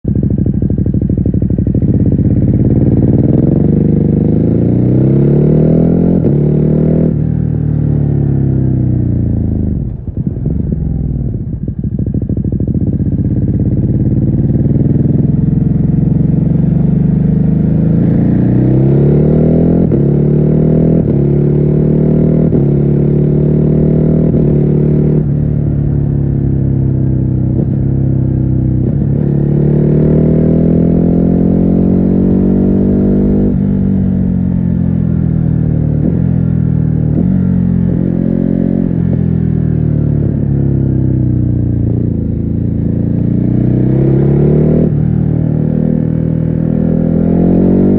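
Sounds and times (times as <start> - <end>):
muffled motorcycle engine revving: 0.0 - 47.9.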